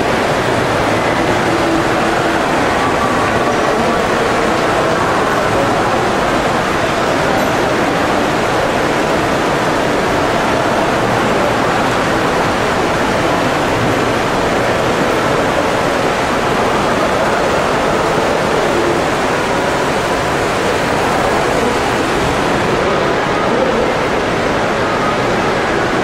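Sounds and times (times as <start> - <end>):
loud rushing noise: 0.0 - 26.0.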